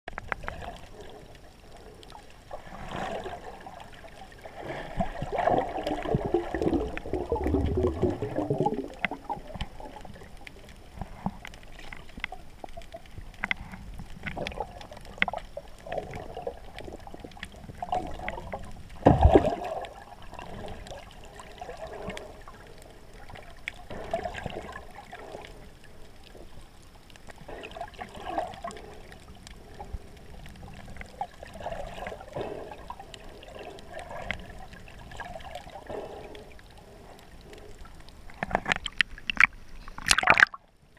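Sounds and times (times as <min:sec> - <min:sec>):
faint clicks: 0:00.1 - 0:02.5, 0:08.8 - 0:19.0, 0:19.8 - 0:40.5
muffled underwater gurgling: 0:00.2 - 0:26.4, 0:27.4 - 0:40.6.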